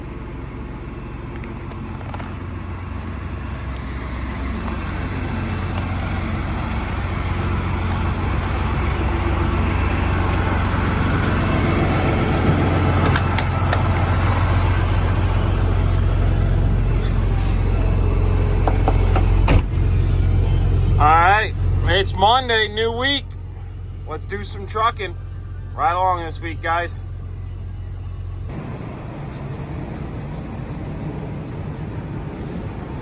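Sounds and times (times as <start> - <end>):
truck engine humming: 0.0 - 33.0.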